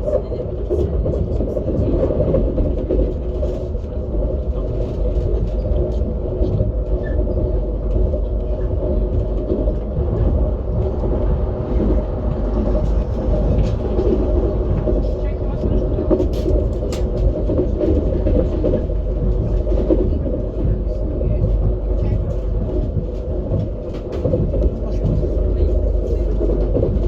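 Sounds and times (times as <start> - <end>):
train rumbling on rails: 0.0 - 27.0.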